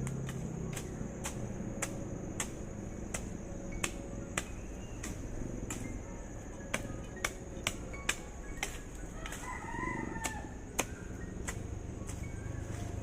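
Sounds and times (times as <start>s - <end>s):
hand tool chopping: 0.0s - 9.5s, 10.2s - 12.9s.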